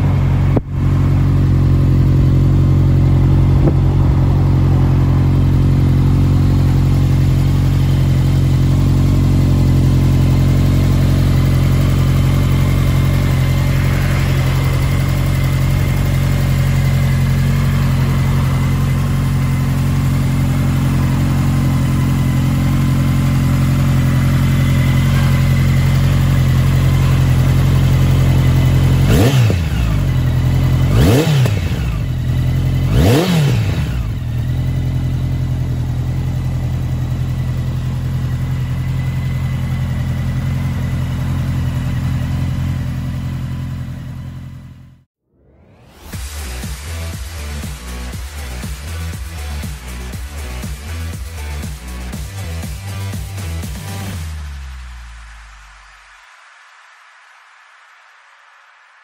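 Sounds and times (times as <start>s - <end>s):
motorcycle engine idling and revving: 0.0s - 56.3s.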